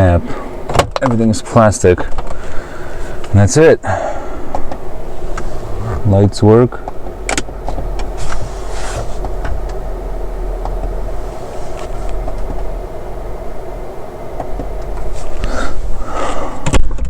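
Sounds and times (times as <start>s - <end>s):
electric sunroof motor running: 0.0s - 17.0s.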